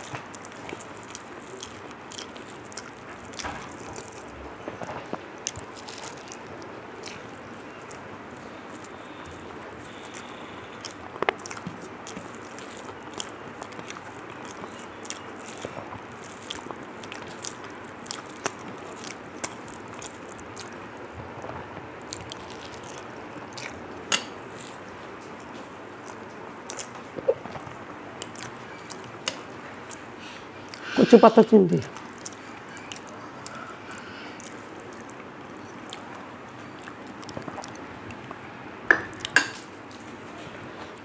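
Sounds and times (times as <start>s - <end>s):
chewing and eating sounds: 0.0s - 41.0s.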